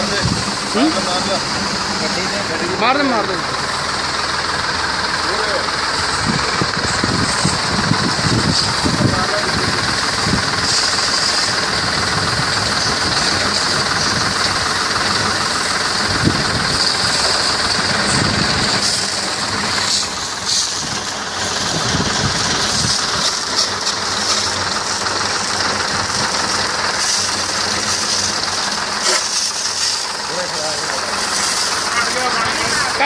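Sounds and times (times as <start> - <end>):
tractor engine rumble: 0.0 - 33.0
sprayer pump hiss: 5.3 - 33.0.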